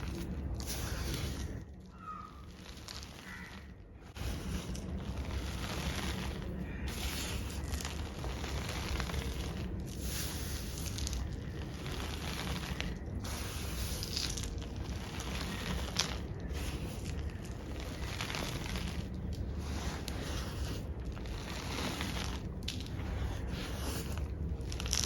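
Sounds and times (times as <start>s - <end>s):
hands squeezing chalk powder: 0.0s - 25.0s.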